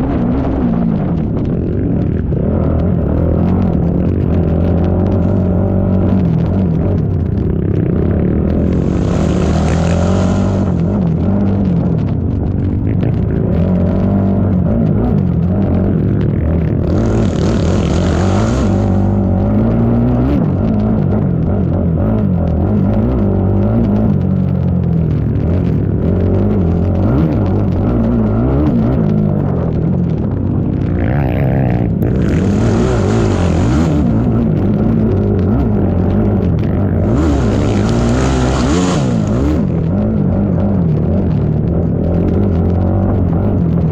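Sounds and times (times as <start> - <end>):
atv engine running hard: 0.0 - 43.9.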